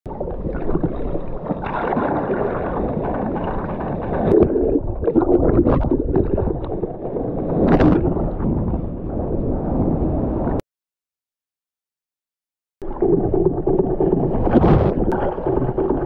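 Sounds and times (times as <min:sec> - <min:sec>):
muffled water sloshing and splashing: 0:00.1 - 0:10.6, 0:12.8 - 0:16.0
wave churning and bubbling: 0:00.1 - 0:10.6, 0:12.8 - 0:16.0.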